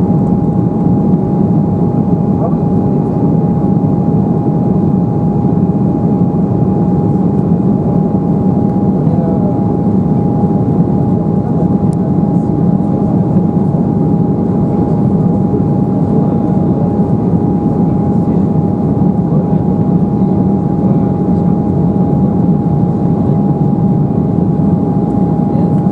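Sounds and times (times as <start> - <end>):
airliner cabin engine drone: 0.0 - 25.9
constant high hum: 0.0 - 25.9.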